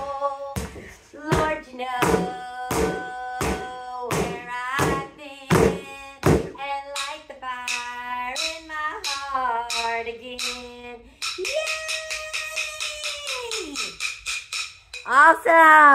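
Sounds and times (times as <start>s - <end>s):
drumsticks striking exercise balls: 0.0s - 15.9s.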